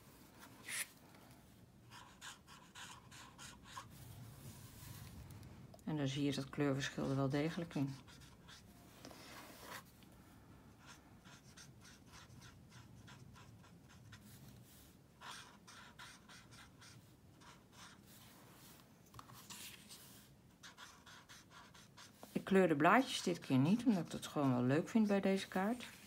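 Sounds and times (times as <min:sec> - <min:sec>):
marker scratching on paper: 0:00.6 - 0:00.9, 0:01.9 - 0:04.9, 0:06.6 - 0:09.9, 0:10.8 - 0:26.0.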